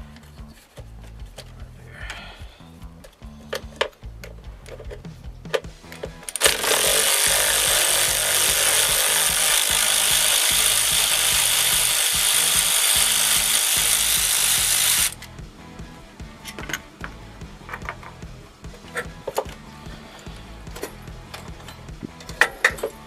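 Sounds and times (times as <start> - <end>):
background music with bass: 0.0 - 23.0.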